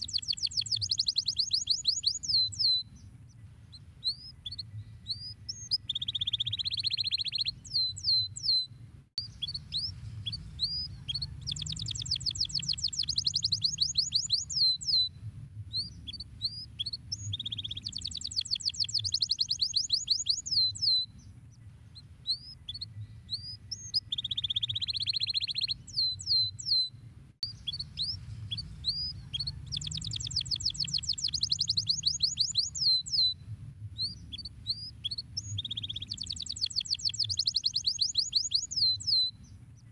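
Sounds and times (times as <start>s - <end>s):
canary singing: 0.0s - 15.1s, 15.8s - 33.4s, 34.0s - 39.9s.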